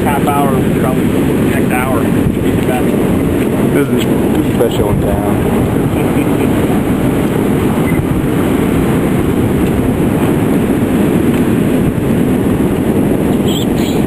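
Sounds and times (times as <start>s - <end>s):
heavy surf breaking on shore: 0.0s - 14.0s
strong wind buffeting microphone: 0.0s - 14.0s.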